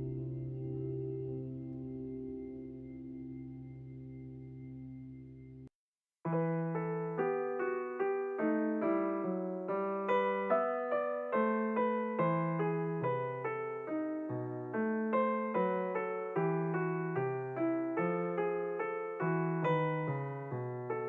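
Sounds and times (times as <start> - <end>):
electric piano gentle tune: 0.0 - 5.7, 6.3 - 21.0.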